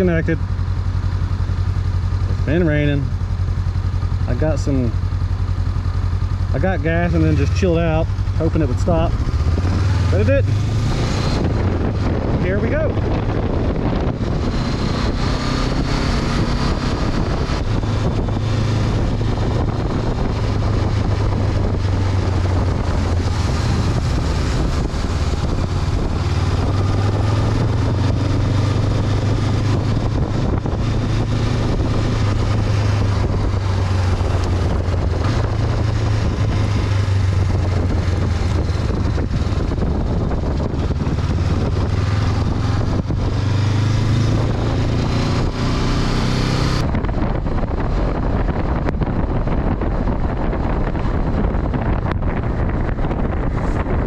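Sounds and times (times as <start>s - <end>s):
motorcycle engine running: 0.0s - 54.0s
wind on microphone: 6.7s - 54.0s.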